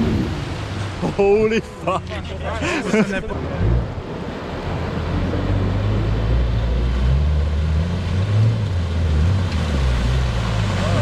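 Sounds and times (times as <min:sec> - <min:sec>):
water splashing around wheels: 0:00.0 - 0:11.0.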